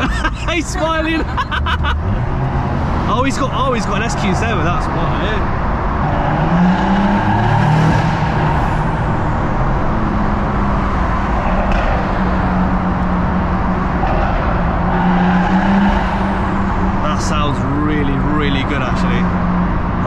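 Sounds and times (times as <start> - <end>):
car engine droning: 0.0 - 20.0.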